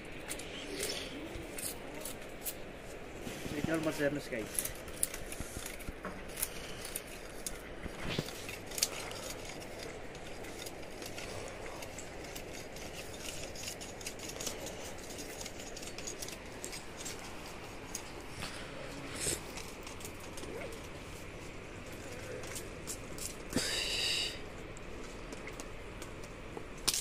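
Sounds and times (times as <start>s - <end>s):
sugarcane rind cracking: 0.0s - 23.9s, 24.5s - 27.0s
steady background hiss: 0.0s - 27.0s.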